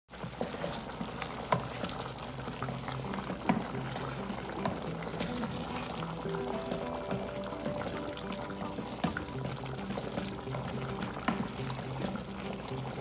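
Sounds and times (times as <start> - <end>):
sauce bubbling in a pot: 0.1 - 13.0
wooden spoon stirring: 0.1 - 13.0
soft background music: 0.3 - 13.0.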